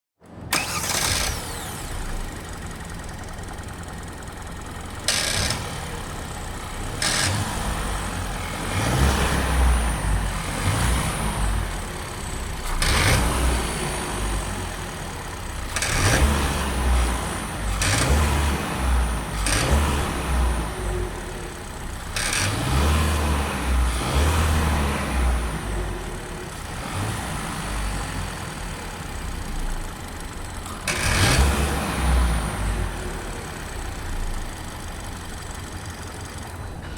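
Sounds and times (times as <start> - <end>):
engine rattle: 0.2 - 36.9
car engine accelerating: 0.5 - 36.9.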